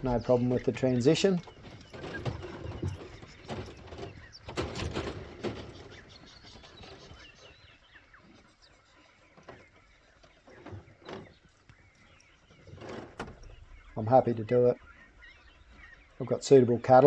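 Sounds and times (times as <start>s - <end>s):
outdoor rustling and knocks: 0.0s - 8.2s, 9.2s - 14.8s
small birds chirping: 0.0s - 17.0s.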